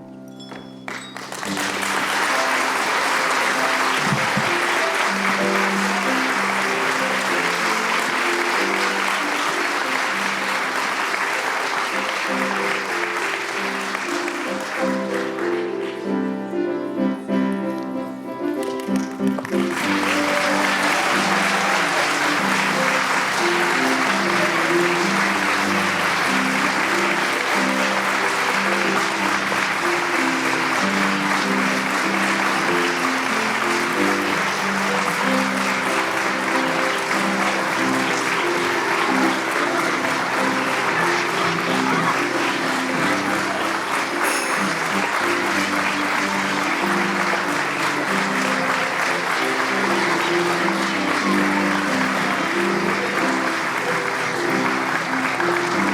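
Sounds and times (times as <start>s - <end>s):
audience applause: 0.0s - 55.9s
instrumental music: 0.0s - 55.9s.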